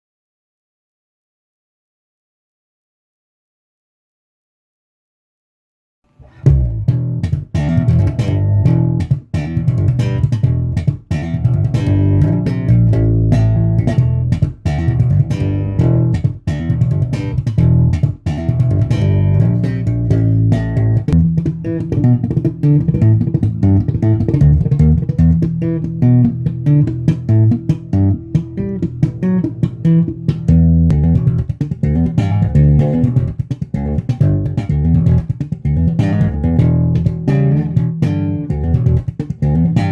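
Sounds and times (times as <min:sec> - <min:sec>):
plucked bass guitar line: 0:06.2 - 0:39.9.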